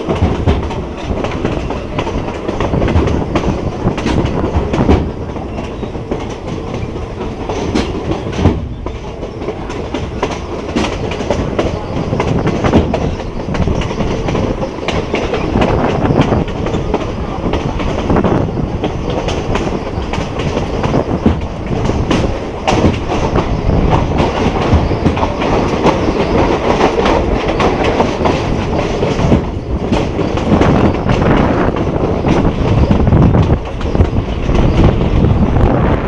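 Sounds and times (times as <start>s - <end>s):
wheels clicking over rail joints: 0.0s - 35.4s
train wheels rumbling on rails: 0.0s - 36.0s.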